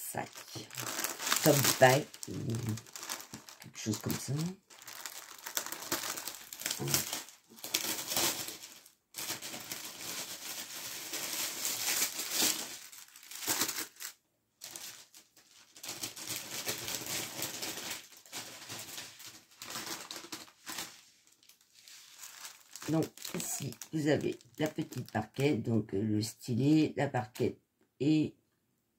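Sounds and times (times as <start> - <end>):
plastic wrapping crinkling: 0.0 - 25.5.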